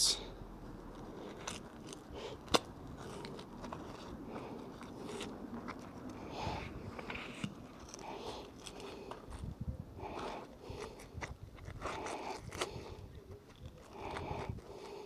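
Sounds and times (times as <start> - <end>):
gritty scraping and crackling: 0.7 - 15.0.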